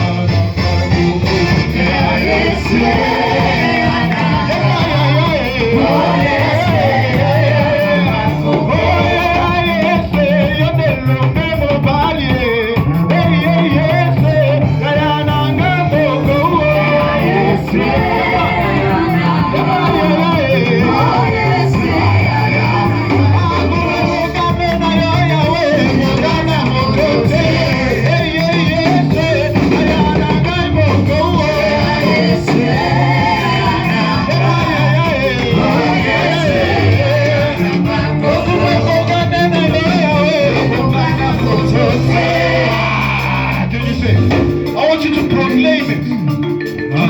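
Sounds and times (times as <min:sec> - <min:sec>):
voices singing praise music: 0:00.0 - 0:46.2
band with bass and guitar: 0:00.0 - 0:47.0.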